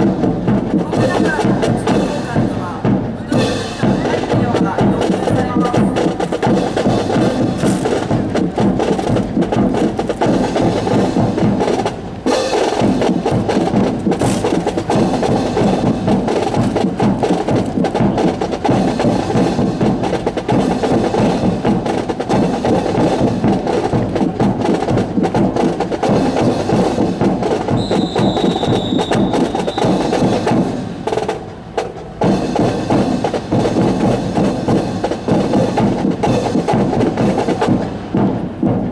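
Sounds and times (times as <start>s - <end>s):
snare and bass drums cadence: 0.0s - 38.9s.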